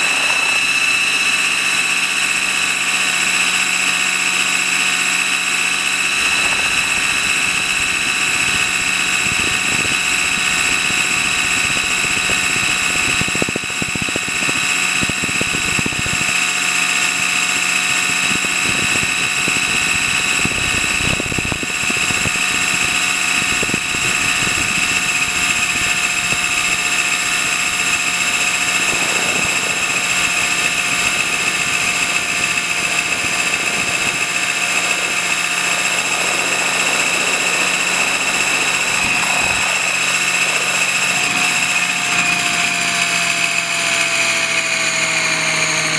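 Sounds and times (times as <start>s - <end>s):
low buffeting gusts: 0.0s - 16.5s, 17.6s - 45.8s
rc helicopter rotor whine: 0.0s - 45.9s.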